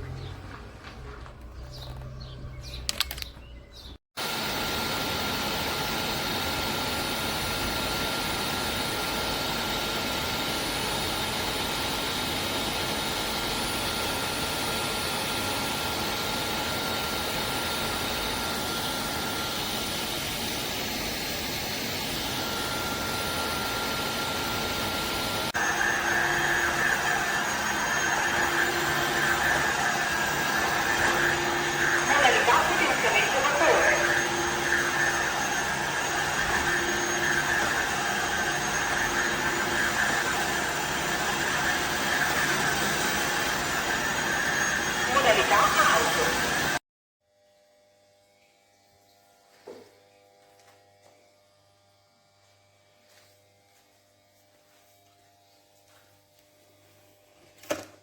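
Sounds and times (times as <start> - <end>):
floor cleaner motor running: 3.8 - 46.8, 48.3 - 58.0.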